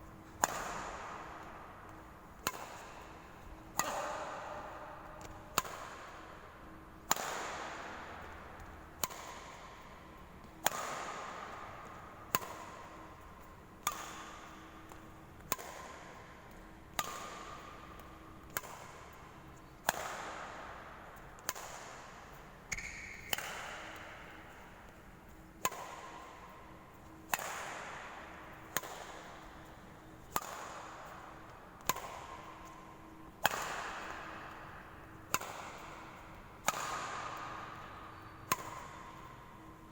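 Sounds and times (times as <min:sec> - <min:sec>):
racket hitting shuttlecock: 0:00.2 - 0:39.9.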